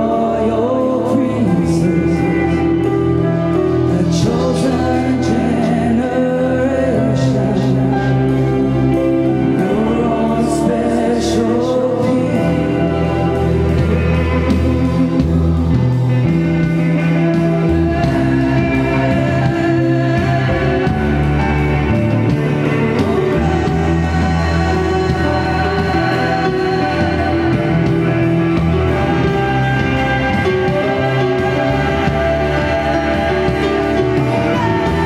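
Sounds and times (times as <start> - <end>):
drums: 0.0 - 35.0
guitar: 0.0 - 35.0
keyboards: 0.0 - 35.0
voices singing: 0.0 - 35.0.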